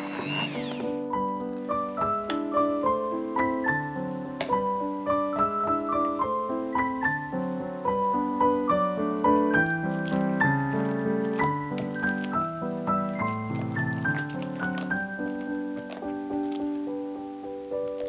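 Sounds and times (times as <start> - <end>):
background piano music: 0.0 - 18.0.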